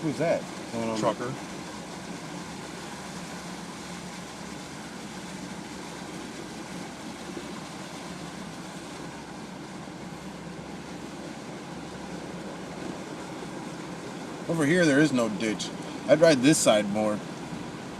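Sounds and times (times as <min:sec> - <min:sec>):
truck engine and tyre noise: 0:00.0 - 0:17.9.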